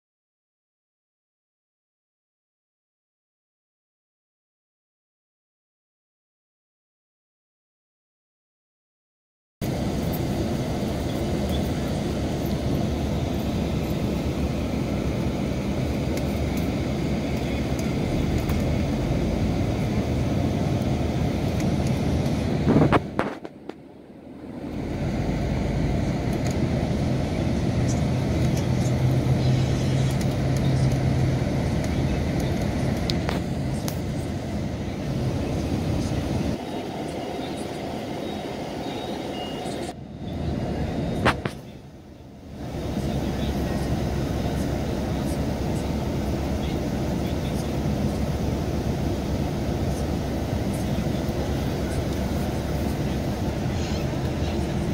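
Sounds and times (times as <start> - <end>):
diesel engine running: 9.6 - 54.9.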